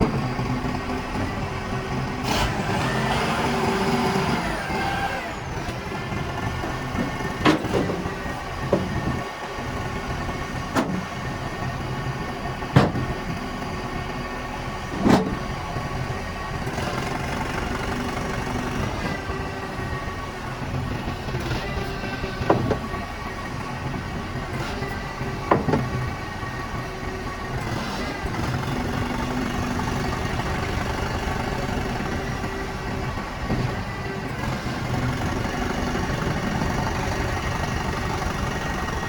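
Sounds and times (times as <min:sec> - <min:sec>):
engine whine: 0:00.0 - 0:39.0
truck engine running: 0:00.0 - 0:39.0.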